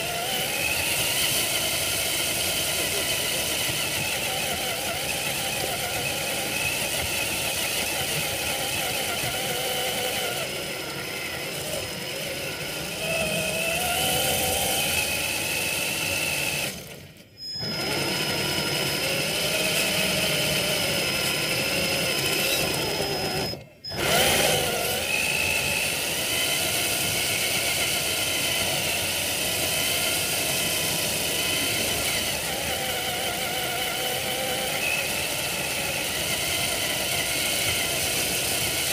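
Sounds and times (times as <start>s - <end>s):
electric motor and gearbox whining: 0.0s - 38.9s.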